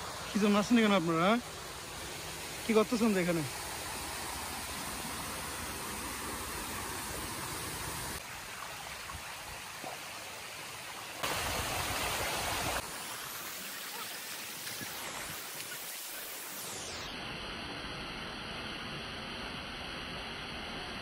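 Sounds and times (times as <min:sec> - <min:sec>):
waterfall rushing and splashing: 0:00.0 - 0:21.0.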